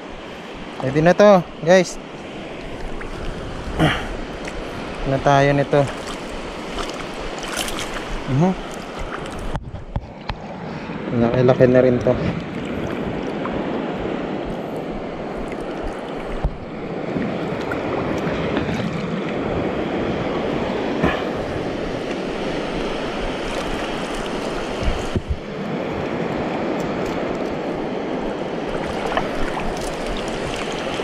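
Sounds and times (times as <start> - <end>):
surf washing: 0.0 - 31.0
wind buffeting microphone: 2.1 - 31.0.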